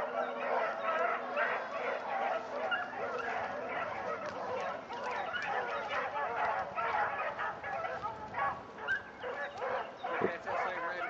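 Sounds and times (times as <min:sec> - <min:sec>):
dogs baying: 0:00.0 - 0:11.0.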